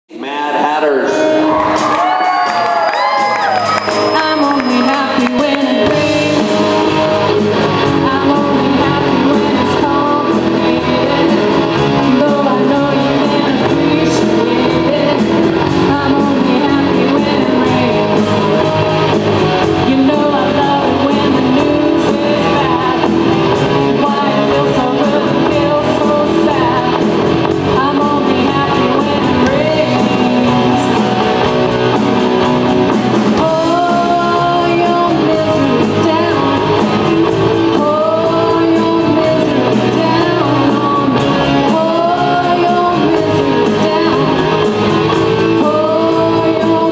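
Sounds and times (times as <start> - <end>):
live rock band: 0.2 - 46.9
person singing: 0.2 - 46.9.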